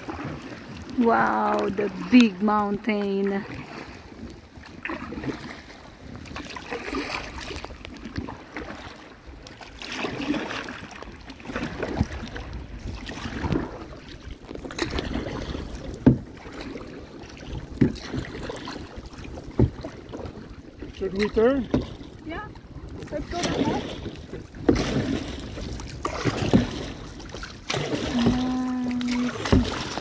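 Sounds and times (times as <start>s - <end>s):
paddles splashing in water: 0.0s - 30.0s.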